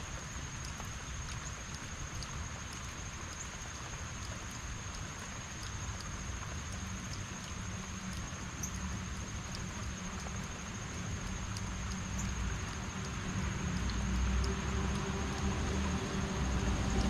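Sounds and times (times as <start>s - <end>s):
faint drips: 0.0s - 17.0s
heavy rain falling: 0.0s - 17.0s.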